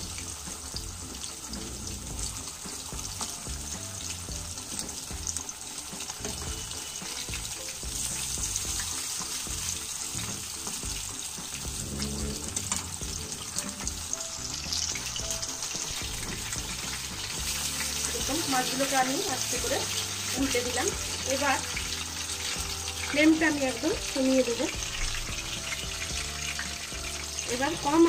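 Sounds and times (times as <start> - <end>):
background music: 0.0 - 28.0
fish sizzling in hot oil: 0.0 - 28.0.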